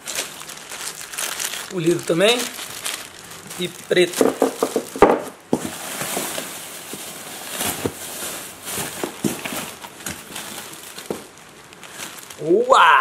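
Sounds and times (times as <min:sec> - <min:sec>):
plastic bags and cardboard rustling: 0:00.0 - 0:12.5.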